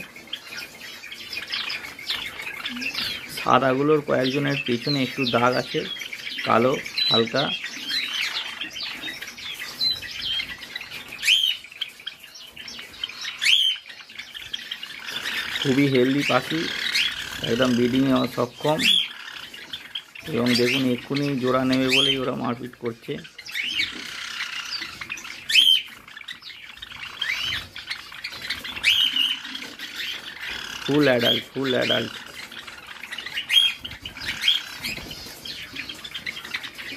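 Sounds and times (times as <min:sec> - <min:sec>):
sharp bird calls: 0:00.0 - 0:36.9
sparrows chirping: 0:00.0 - 0:36.9.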